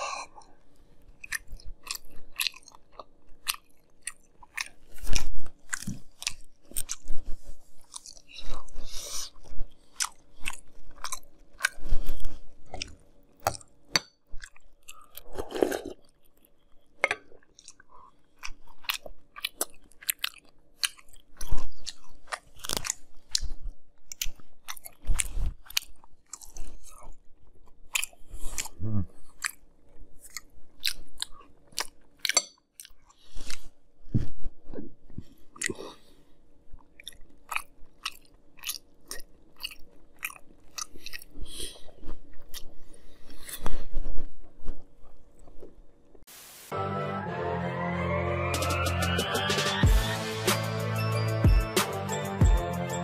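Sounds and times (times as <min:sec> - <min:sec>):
wet crunching chewing: 0:01.2 - 0:36.1, 0:36.7 - 0:45.9.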